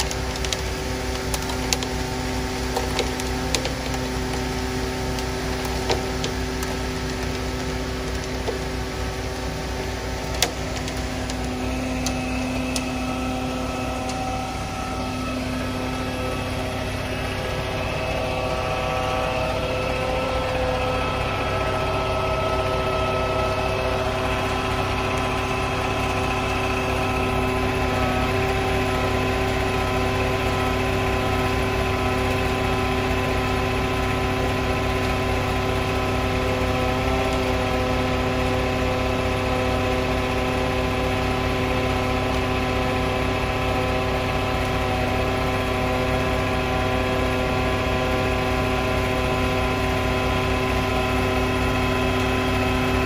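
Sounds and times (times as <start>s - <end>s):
diesel engine idling: 0.0s - 53.0s
steady whining tones: 0.0s - 53.0s.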